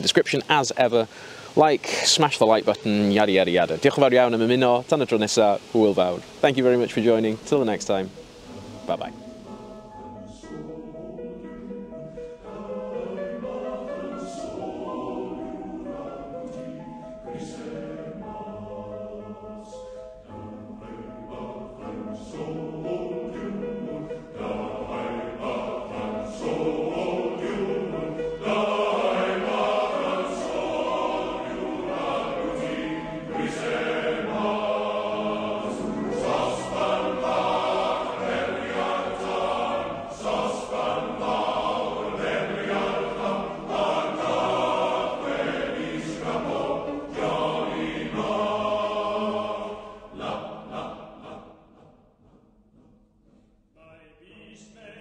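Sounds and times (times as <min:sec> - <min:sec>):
choir singing: 0:00.0 - 0:52.5, 0:53.7 - 0:55.0.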